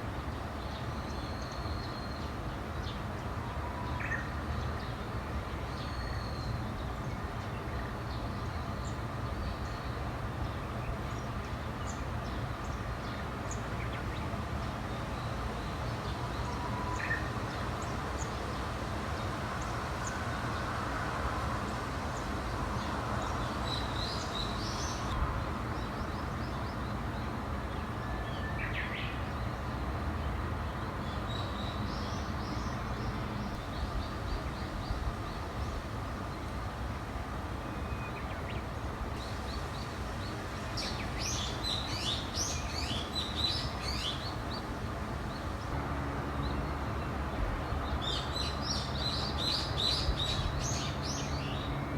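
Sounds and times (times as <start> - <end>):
songbirds chirping: 0.2 - 51.9.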